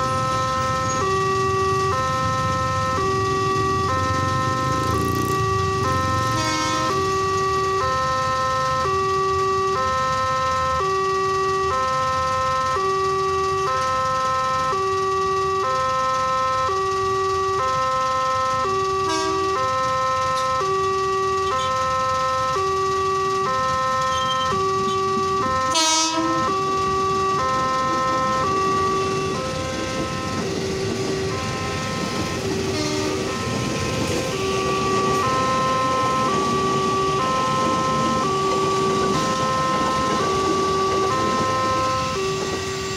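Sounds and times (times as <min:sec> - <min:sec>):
level crossing two-tone alarm: 0:00.0 - 0:42.9.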